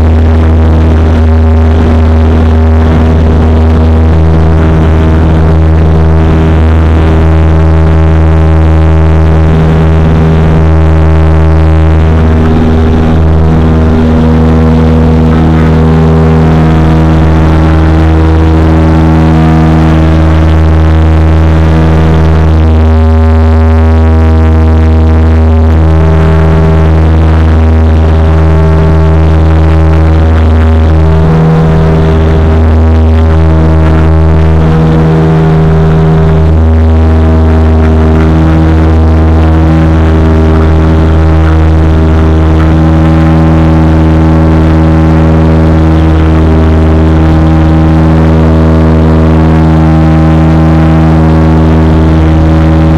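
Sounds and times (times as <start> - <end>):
turboprop cabin drone: 0.0 - 52.9.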